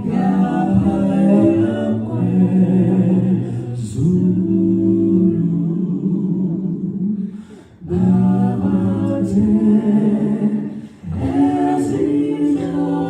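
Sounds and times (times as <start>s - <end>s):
voices singing a cappella: 0.0s - 13.0s.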